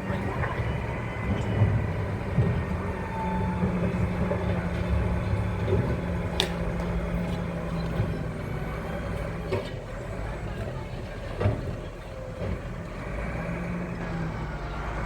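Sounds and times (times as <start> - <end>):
large engine droning: 0.0 - 15.0.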